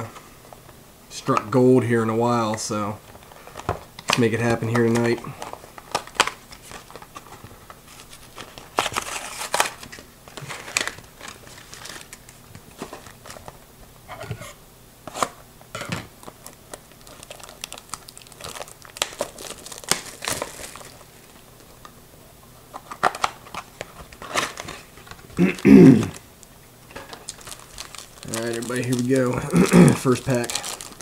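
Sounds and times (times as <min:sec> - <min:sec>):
plastic packaging crinkling: 0:02.2 - 0:13.7, 0:16.2 - 0:22.0, 0:22.6 - 0:31.0.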